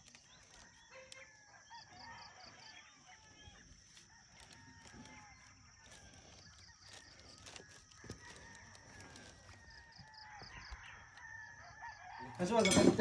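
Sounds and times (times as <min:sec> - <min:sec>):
rooster crowing: 0:00.5 - 0:12.6.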